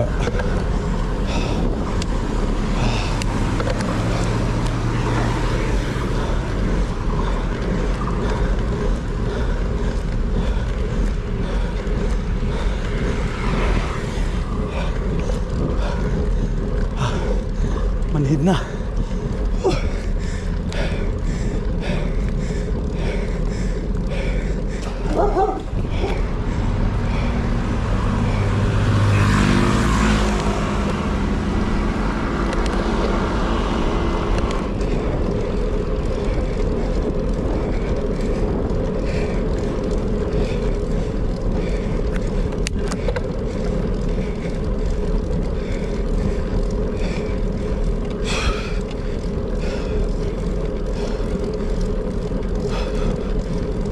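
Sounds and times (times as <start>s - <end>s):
motor vehicle passing: 0.0s - 53.9s
wind and road noise: 0.0s - 53.9s.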